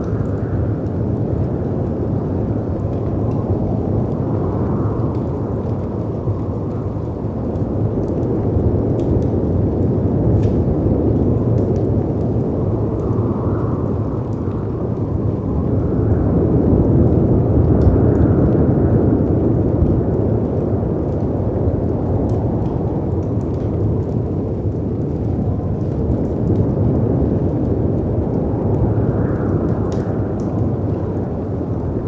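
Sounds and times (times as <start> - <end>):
faint wood fire crackles: 0.0 - 32.0
storm wind: 0.0 - 32.0.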